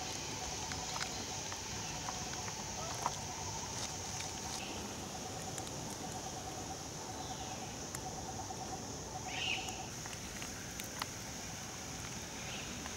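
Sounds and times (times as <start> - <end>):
high insect drone: 0.0 - 12.9.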